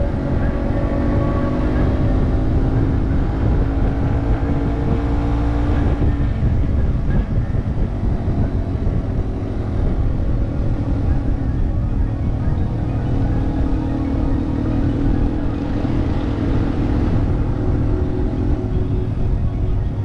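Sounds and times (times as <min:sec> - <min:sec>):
heavy low rumble: 0:00.0 - 0:20.0
motorcycle engine running: 0:00.0 - 0:20.0.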